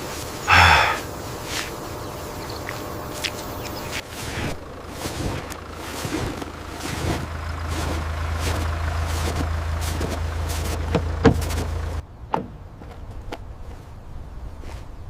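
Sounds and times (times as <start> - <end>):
motor vehicle engine rumbling: 0.0 - 13.2.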